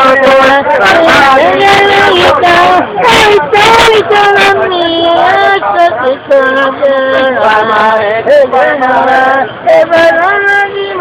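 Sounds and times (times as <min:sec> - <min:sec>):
music with singing voices: 0:00.0 - 0:11.0.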